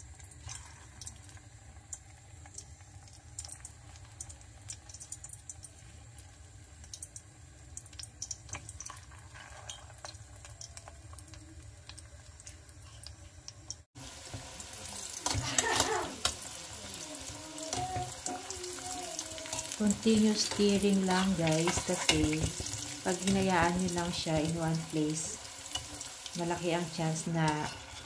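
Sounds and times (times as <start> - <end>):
food deep-frying in hot oil: 0.0 - 28.0.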